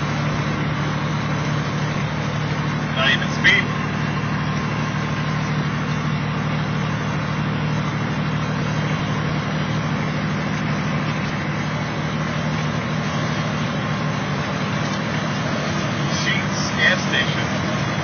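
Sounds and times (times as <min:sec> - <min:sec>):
road and tyre noise: 0:00.0 - 0:18.0
truck engine drone in cab: 0:00.0 - 0:18.0.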